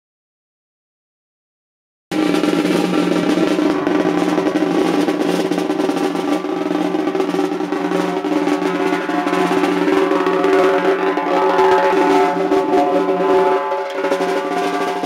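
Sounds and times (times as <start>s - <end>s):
vibrator rattling snare drum: 2.1s - 15.0s
constant hum: 2.2s - 15.0s.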